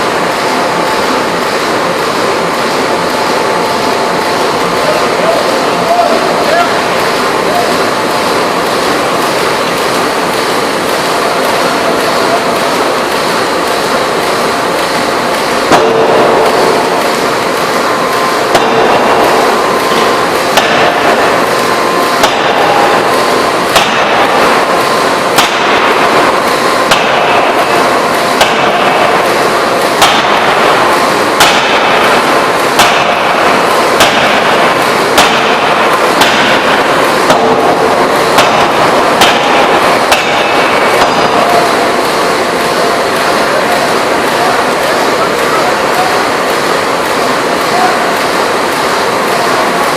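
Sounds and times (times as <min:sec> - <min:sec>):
forging hammer blows: 0:00.0 - 0:49.9
steady loud machine din: 0:00.0 - 0:49.9.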